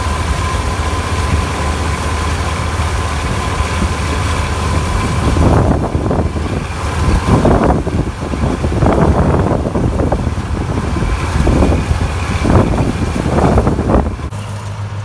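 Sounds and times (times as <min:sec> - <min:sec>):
crackling rushing noise: 0:00.0 - 0:14.3
diesel engine droning: 0:00.0 - 0:15.0.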